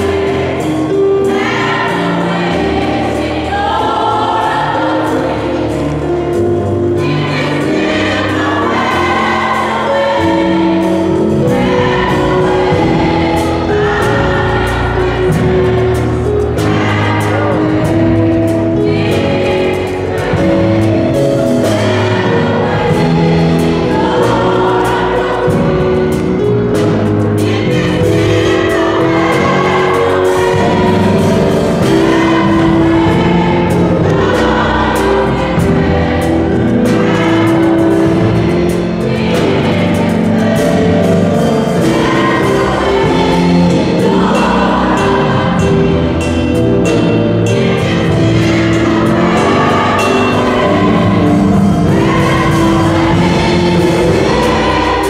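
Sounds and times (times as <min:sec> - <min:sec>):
gospel choir singing: 0:00.0 - 0:55.0
held bass notes: 0:00.0 - 0:55.0
steady drum beat: 0:00.0 - 0:55.0.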